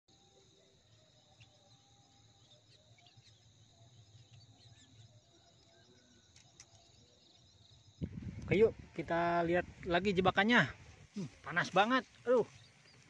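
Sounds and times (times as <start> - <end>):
soft bird chirps: 0.1 - 9.6, 10.7 - 13.0
insect drone: 0.1 - 13.0.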